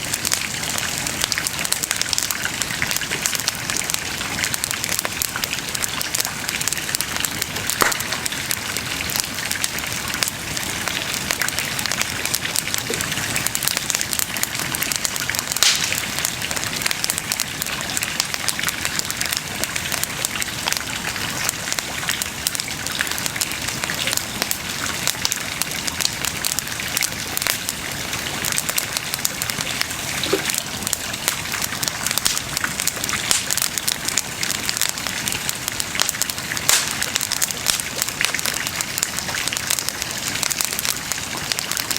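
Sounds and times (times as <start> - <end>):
bonfire crackling: 0.0 - 41.9
fire popping: 0.0 - 41.9.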